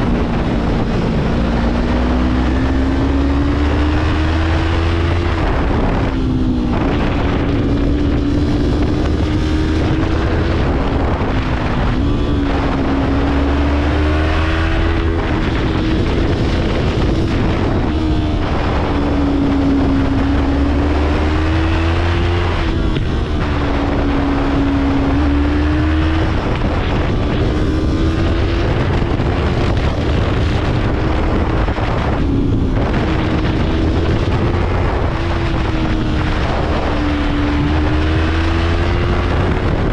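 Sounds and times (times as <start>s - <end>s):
heavy wind noise: 0.0s - 39.9s
motorcycle engine running hard: 0.0s - 39.9s.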